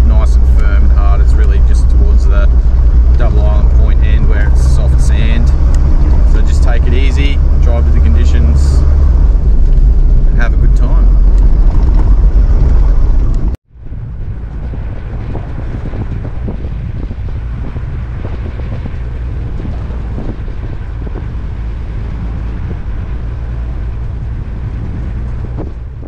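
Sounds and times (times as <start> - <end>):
engine droning: 0.0 - 26.0
wind noise on microphone: 0.0 - 26.0.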